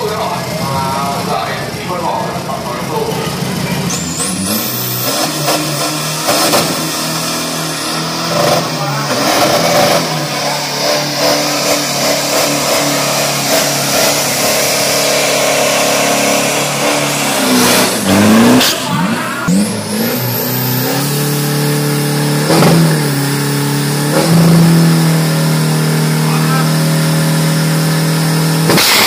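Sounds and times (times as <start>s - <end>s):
truck engine revving: 0.0s - 29.0s
high rising whine: 3.7s - 29.0s.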